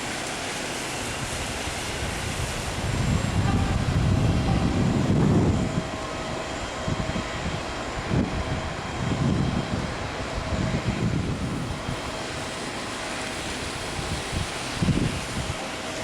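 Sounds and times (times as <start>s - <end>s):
jet airliner engines rumbling: 0.0s - 16.0s
wind gusting on microphone: 0.0s - 16.0s.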